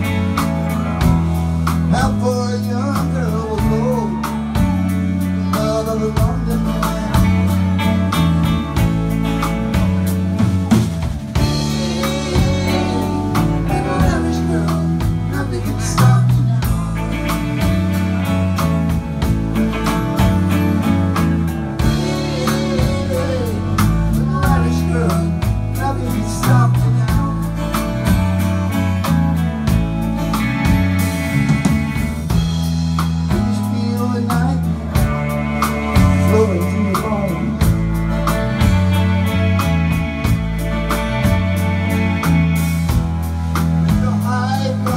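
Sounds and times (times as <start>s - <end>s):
drum kit: 0.0s - 44.9s
electric guitar: 0.0s - 44.9s.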